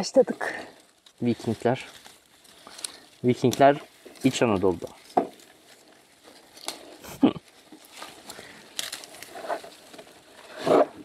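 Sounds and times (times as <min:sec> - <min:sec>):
foliage and branches rustling: 0:00.0 - 0:11.0.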